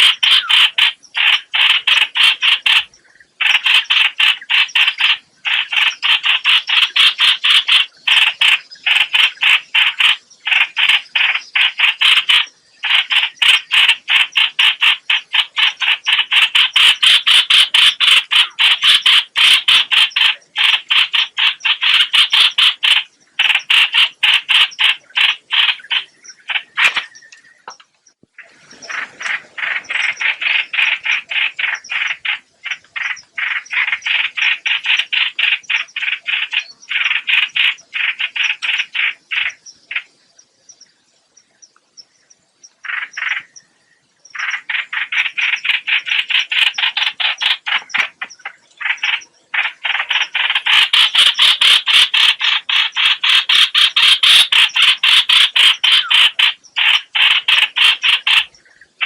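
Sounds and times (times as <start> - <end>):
bird making raspy croaking notes: 0.0 - 59.0.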